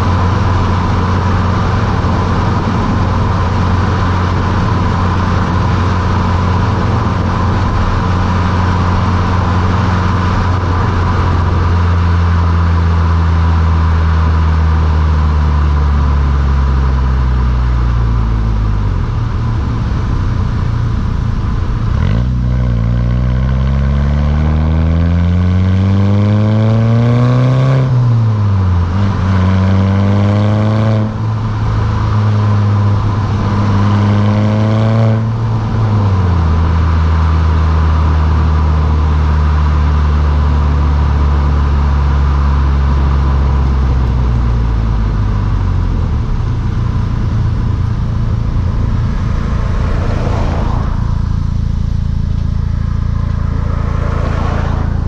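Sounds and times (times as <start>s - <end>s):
car engine revving while driving: 0.0s - 55.0s.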